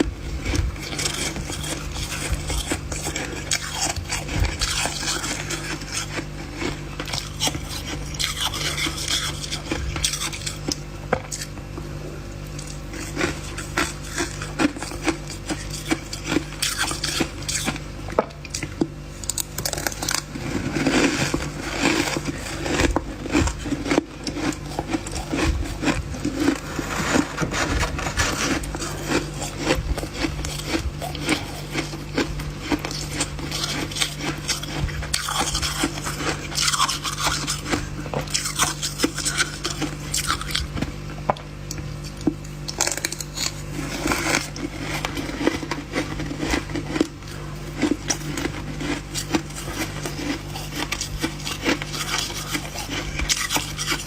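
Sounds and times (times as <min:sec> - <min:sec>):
utensil scraping freezer frost: 0:00.0 - 0:11.7, 0:12.4 - 0:54.0
low steady hum: 0:00.0 - 0:54.0.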